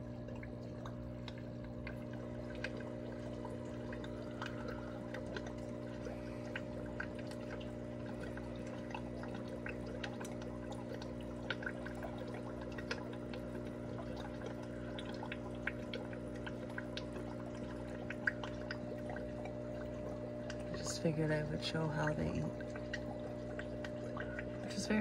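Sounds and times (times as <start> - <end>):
sponge filter bubbling: 0.0 - 25.0
trickling water: 0.0 - 25.0.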